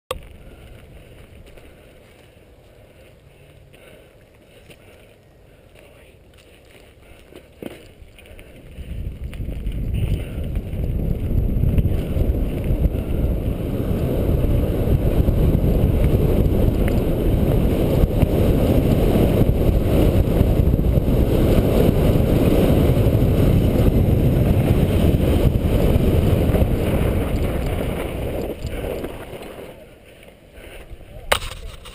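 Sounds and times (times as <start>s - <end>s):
bicycle tyres rumbling on dirt: 0.1s - 31.9s
wind buffeting microphone: 0.1s - 31.9s.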